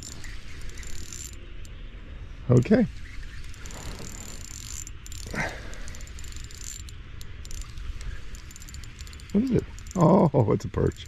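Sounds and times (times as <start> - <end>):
spinning reel whirring: 0.0 - 1.9, 2.5 - 11.0.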